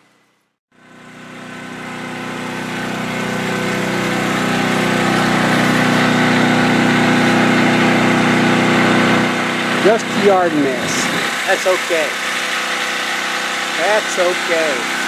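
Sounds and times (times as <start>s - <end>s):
generator engine running: 0.7s - 15.0s.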